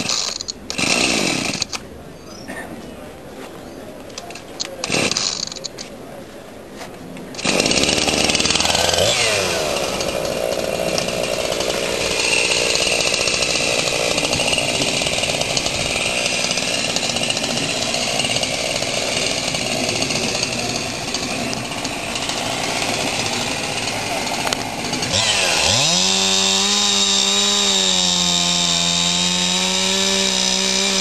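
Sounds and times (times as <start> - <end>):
chainsaw running loudly: 0.0 - 1.8, 4.8 - 5.6, 7.4 - 31.0.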